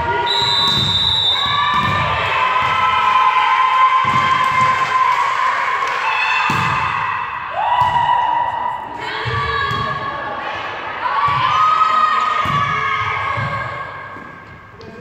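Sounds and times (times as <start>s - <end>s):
spectators shouting and chanting: 0.0s - 14.2s.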